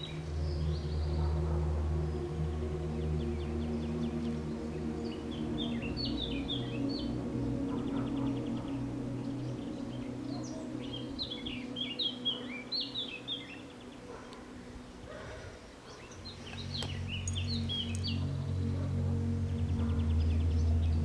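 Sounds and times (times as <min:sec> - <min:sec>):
low steady drone: 0:00.0 - 0:21.0
songbirds chirping: 0:00.0 - 0:21.0.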